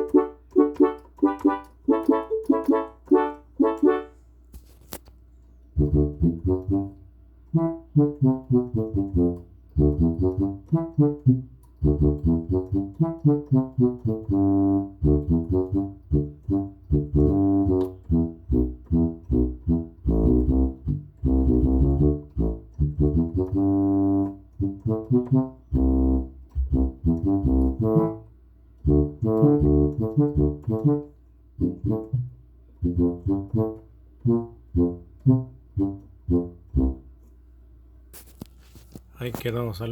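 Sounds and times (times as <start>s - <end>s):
keyboard tuba voice low notes: 0.0s - 4.2s, 5.7s - 37.2s.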